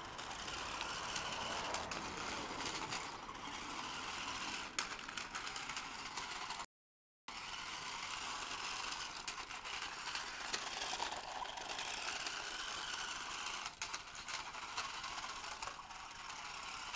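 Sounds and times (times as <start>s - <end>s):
plastic wheels rattling on paving: 0.0s - 6.7s, 7.3s - 16.9s
small electric motor whirring: 0.0s - 6.7s, 7.3s - 16.9s.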